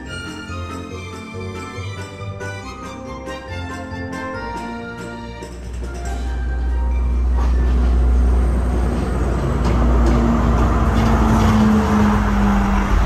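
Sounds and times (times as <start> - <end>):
diesel train engine rumble: 0.0 - 13.0.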